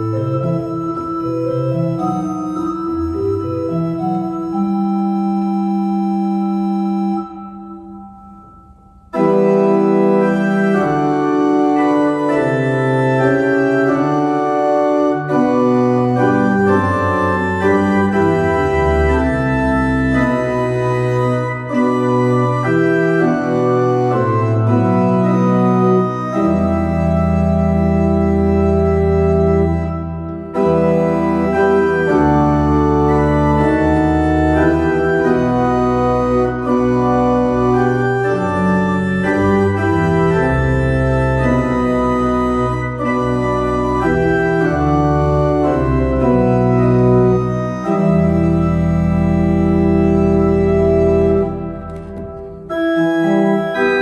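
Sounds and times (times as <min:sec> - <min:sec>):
pipe organ playing hymn chords: 0:00.0 - 0:54.0.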